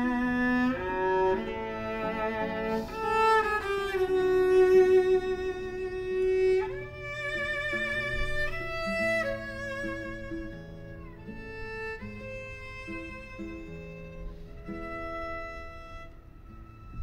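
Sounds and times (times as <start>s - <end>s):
lower accompanying notes: 0.0s - 17.0s
violin playing slow melody: 0.0s - 17.0s.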